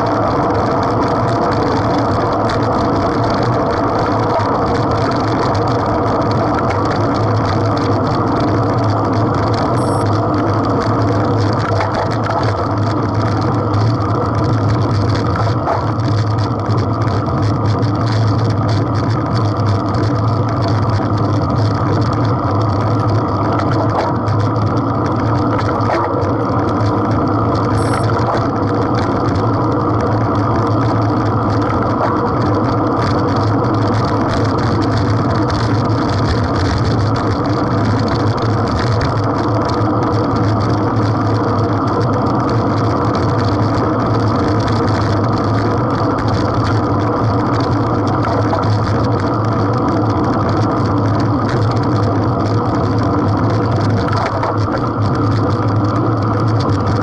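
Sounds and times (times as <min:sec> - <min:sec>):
low hum: 0:00.0 - 0:57.0
road rumble: 0:00.0 - 0:57.0.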